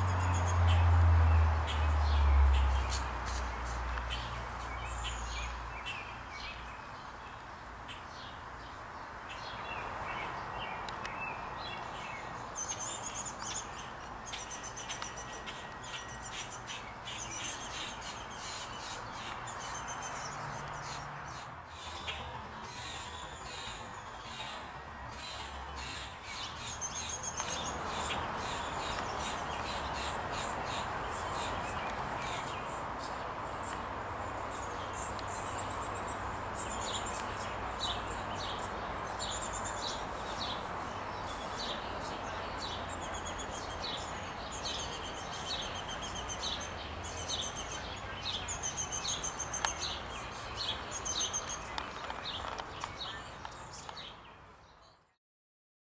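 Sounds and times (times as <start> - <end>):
orioles chirping: 9.2 - 54.2.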